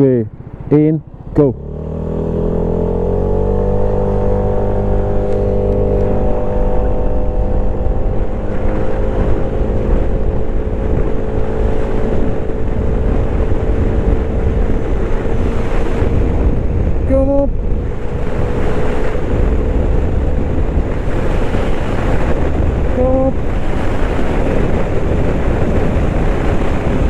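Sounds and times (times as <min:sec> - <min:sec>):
wind rushing over microphone: 0:00.0 - 0:27.0
scooter engine at full throttle: 0:00.2 - 0:27.0.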